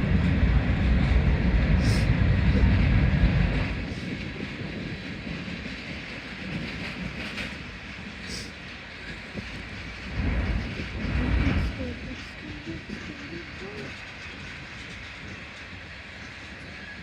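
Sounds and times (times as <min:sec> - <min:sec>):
train cars rolling past: 0:00.0 - 0:17.0
sharp clicks of wheels on rail: 0:02.8 - 0:17.0.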